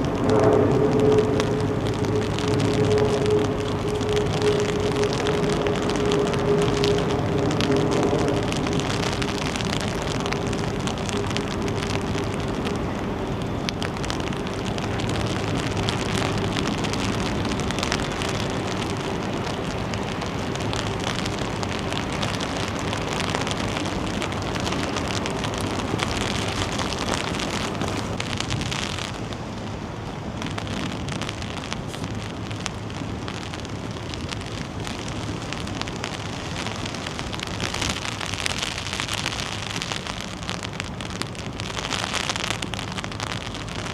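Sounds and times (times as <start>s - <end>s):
low steady hum: 0.0s - 43.9s
raindrop impacts close by: 0.0s - 43.9s
steady rain falling: 0.0s - 43.9s.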